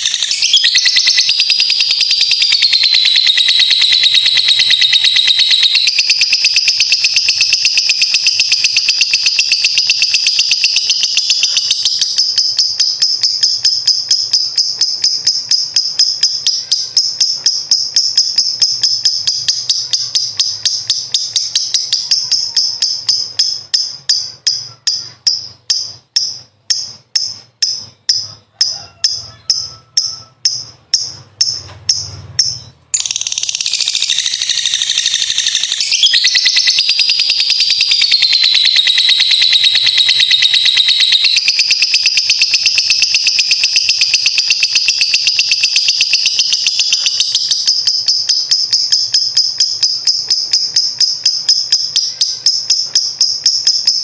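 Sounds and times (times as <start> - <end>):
bird chattering trill: 0.0 - 54.0.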